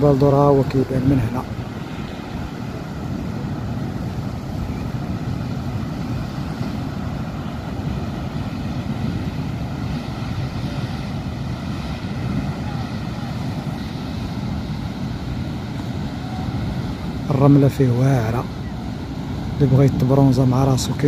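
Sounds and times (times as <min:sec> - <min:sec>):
waves breaking on rocks: 0:00.0 - 0:21.0
wind buffeting microphone: 0:00.0 - 0:21.0.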